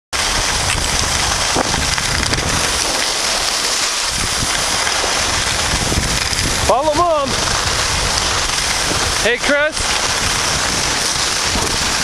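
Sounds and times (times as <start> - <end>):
low buffeting rumble: 0.2 - 12.0
skis sliding on snow: 0.2 - 12.0
wind hiss on microphone: 0.2 - 12.0.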